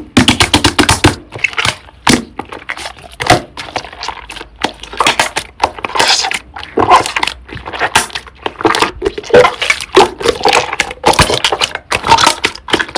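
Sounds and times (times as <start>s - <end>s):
slime squelching and popping: 0.0s - 12.9s.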